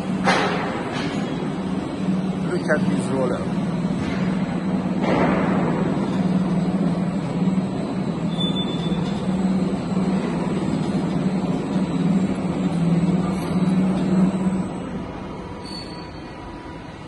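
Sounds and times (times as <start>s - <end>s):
machine drone with low hum: 0.0s - 17.0s.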